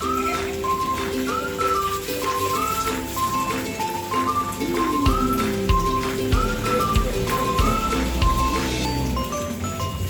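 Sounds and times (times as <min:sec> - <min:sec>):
melody over light beat: 0:00.0 - 0:10.0.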